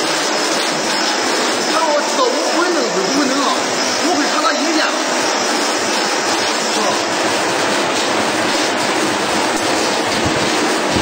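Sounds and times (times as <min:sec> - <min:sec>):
bottle washing machine running: 0:00.0 - 0:11.0
water jets hissing: 0:00.0 - 0:11.0.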